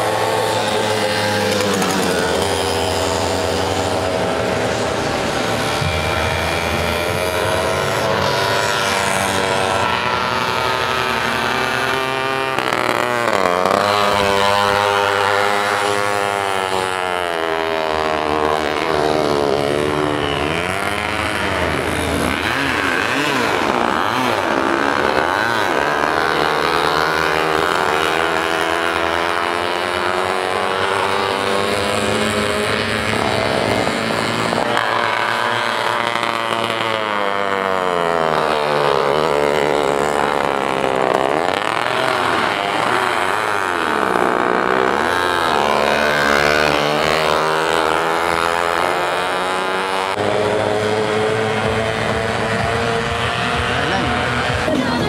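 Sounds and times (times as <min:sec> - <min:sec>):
moped engines racing: 0:00.0 - 0:55.0.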